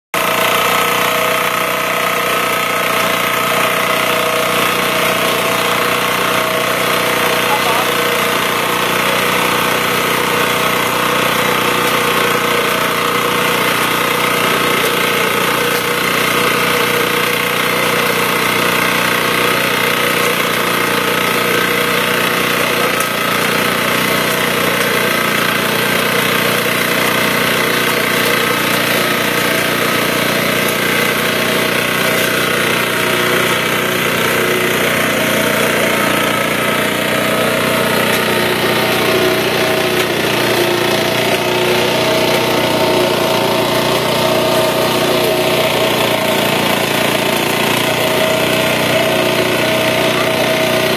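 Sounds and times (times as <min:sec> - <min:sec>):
small engine running: 0:00.2 - 0:50.9.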